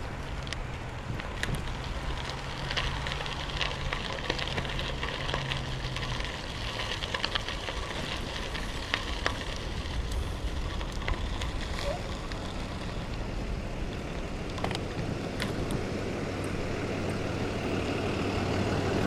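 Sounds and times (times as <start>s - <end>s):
bicycle tyres crunching on gravel: 0.0s - 19.0s.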